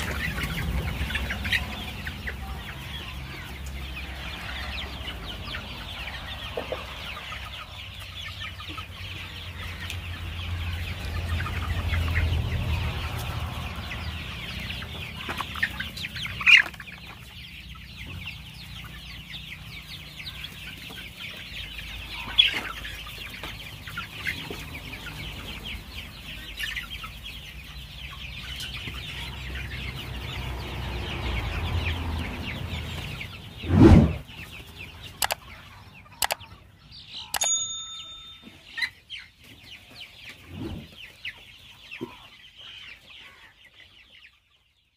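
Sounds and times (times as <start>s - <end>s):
chickens clucking and chirping: 0.0s - 44.9s.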